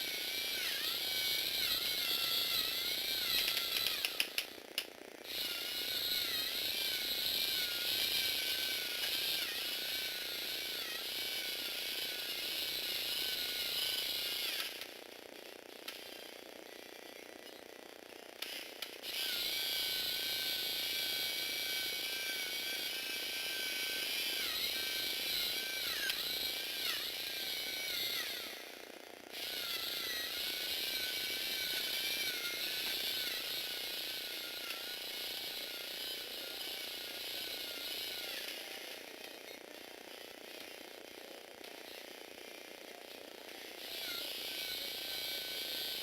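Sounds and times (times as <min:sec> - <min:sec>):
toy car motor and gears whining: 0:00.0 - 0:46.0.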